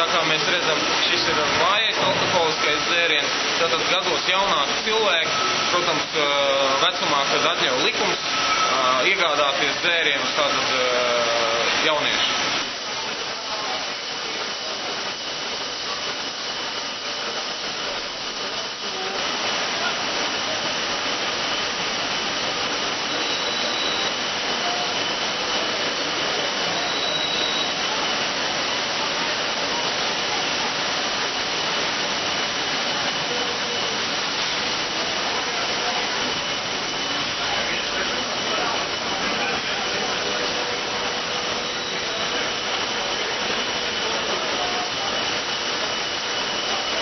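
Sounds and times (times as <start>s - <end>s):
thin steady whine: 0.0s - 47.0s.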